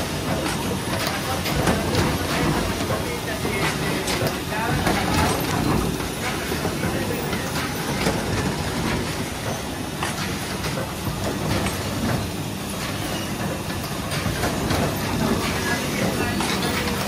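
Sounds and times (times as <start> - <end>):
printing press clattering: 0.0 - 17.0.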